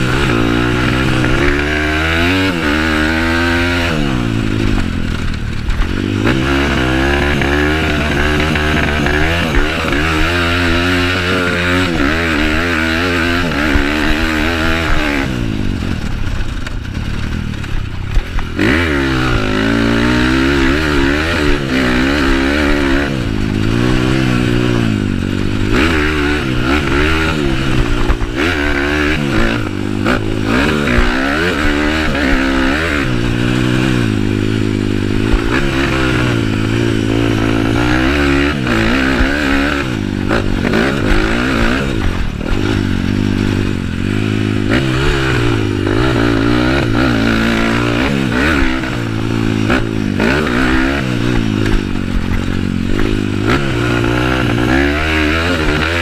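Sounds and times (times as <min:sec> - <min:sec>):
trail bike engine revving: 0:00.0 - 0:56.0.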